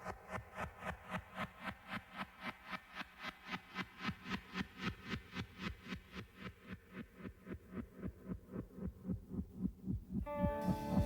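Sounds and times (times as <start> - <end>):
soft pulsing music beat: 0.0 - 11.0.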